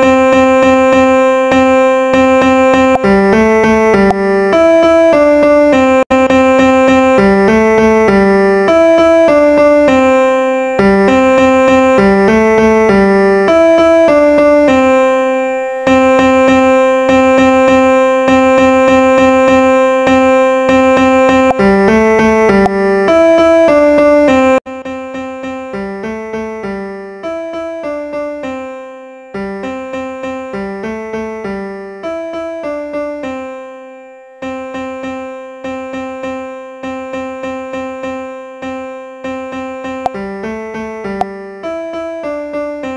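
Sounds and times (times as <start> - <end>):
keyboard music: 0.0 - 42.9.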